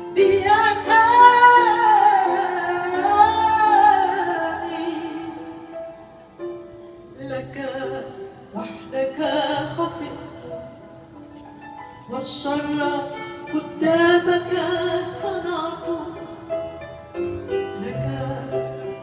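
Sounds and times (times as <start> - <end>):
woman singing a hymn: 0.0 - 5.8, 7.2 - 10.9, 12.0 - 16.8, 17.7 - 19.0
musical accompaniment: 0.0 - 19.0.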